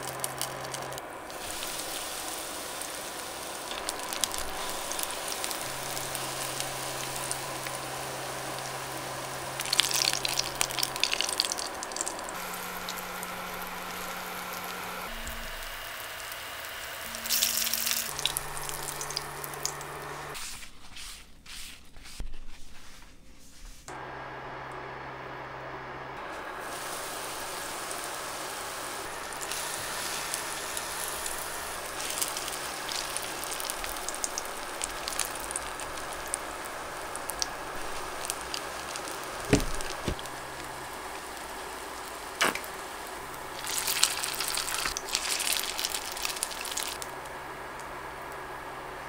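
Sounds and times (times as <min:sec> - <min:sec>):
oil sizzling in a frying pan: 0:00.0 - 0:20.3, 0:26.5 - 0:48.4.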